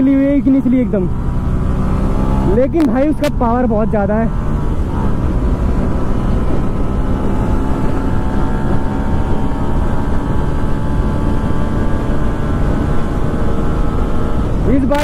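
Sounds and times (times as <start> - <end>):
motorcycle engine at high revs: 0.0 - 15.0
wind rush on microphone: 0.0 - 15.0.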